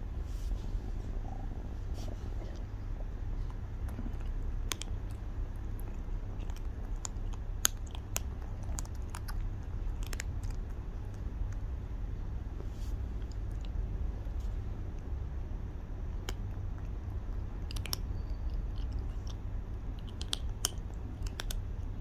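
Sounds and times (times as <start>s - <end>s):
kitten crunching dry kibble: 2.0s - 15.2s, 16.1s - 22.0s.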